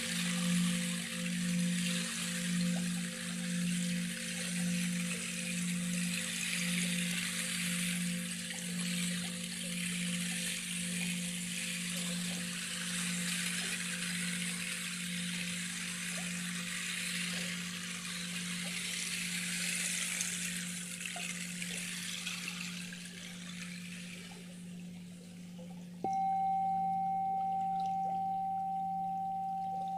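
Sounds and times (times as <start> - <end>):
water trickling and splashing: 0.0 - 26.0
low steady hum: 0.0 - 29.9.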